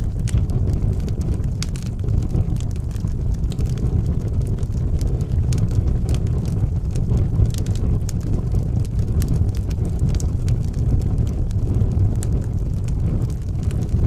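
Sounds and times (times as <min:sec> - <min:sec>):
fire crackling and popping: 0:00.0 - 0:14.0
fire flame rushing: 0:00.0 - 0:14.0.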